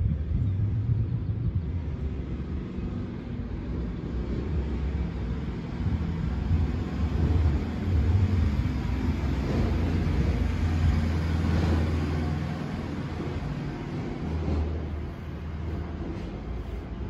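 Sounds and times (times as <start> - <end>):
low uneven rumbling: 0.0 - 17.0.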